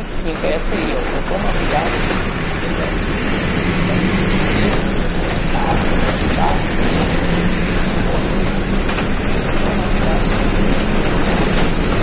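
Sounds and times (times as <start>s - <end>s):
bus engine hum: 0.0s - 12.0s
road noise: 0.0s - 12.0s.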